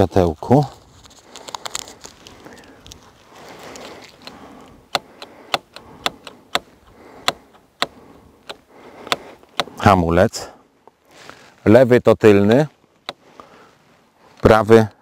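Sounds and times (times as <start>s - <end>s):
faint rustling: 0.2s - 9.7s, 10.5s - 14.7s.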